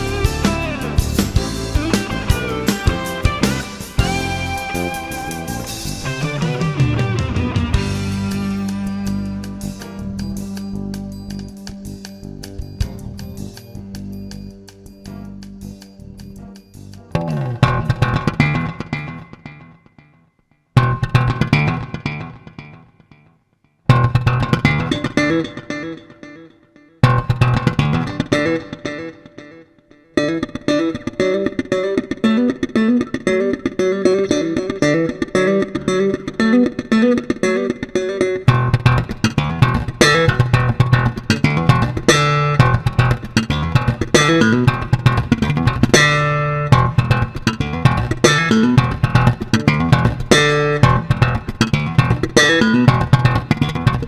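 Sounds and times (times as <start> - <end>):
guitar and bass guitar music: 0.0 - 19.8, 20.8 - 22.9, 23.9 - 29.5, 30.2 - 54.0.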